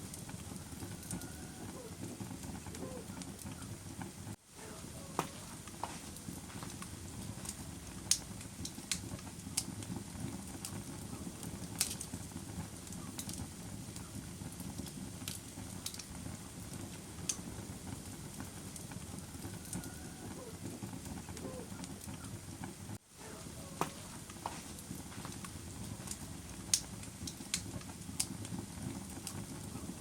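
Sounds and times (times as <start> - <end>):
low rush of burning fire: 0.0 - 30.0
wood fire pops and snaps: 0.0 - 30.0.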